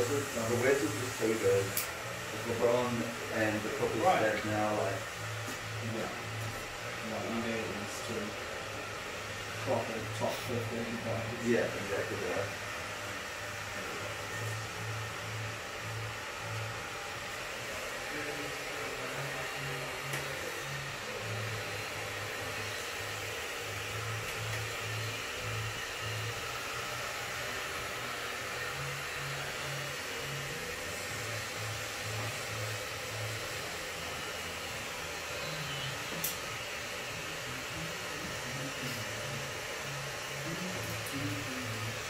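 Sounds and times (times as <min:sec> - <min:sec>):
hair clippers whirring: 0:00.0 - 0:42.0.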